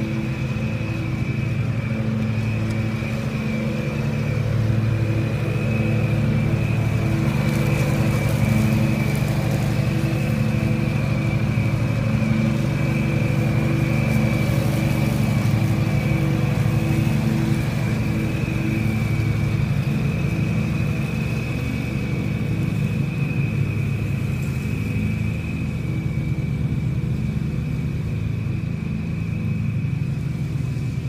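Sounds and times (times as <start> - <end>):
mower blades high whine: 0.0 - 31.0
riding lawn mower engine hum: 0.0 - 31.0.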